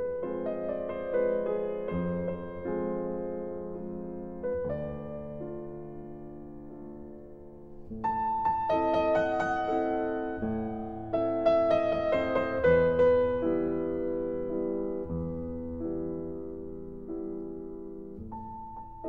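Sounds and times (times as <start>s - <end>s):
slow keyboard music: 0.0s - 19.0s.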